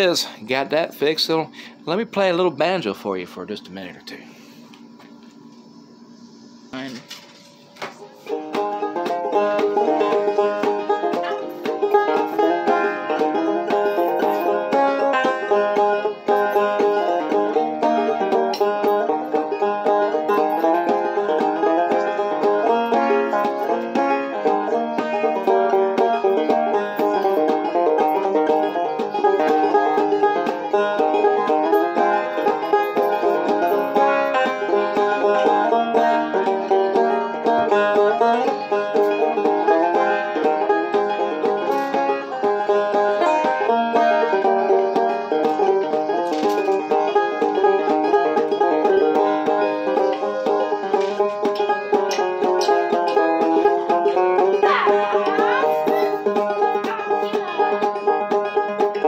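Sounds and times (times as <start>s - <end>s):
banjo plucked notes and chords: 0.0s - 3.9s, 8.0s - 59.0s.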